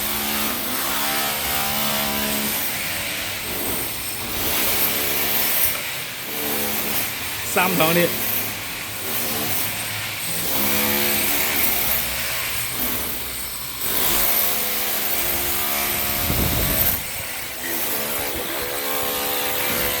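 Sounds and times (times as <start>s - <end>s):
power tool running: 0.0s - 20.0s.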